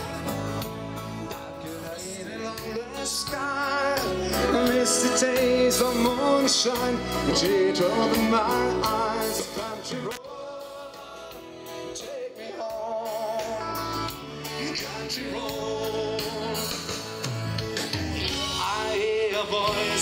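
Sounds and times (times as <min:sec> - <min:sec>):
live country rock band: 0:00.0 - 0:20.0
men singing: 0:01.3 - 0:17.1, 0:18.2 - 0:20.0.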